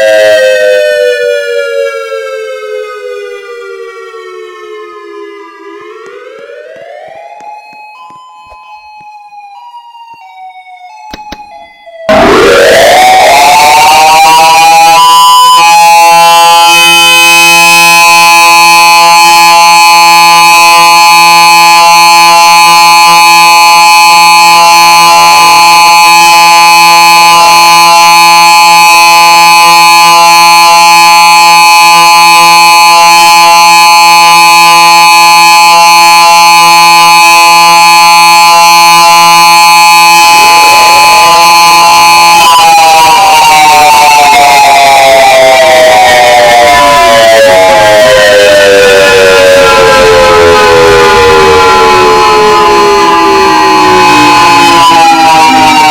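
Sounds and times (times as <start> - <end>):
warning siren steady tone: 0.0 - 55.9.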